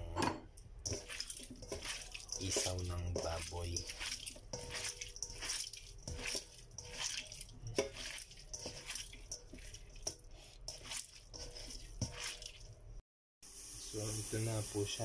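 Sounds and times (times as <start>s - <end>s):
hand kneading wet intestines: 0.7s - 12.9s.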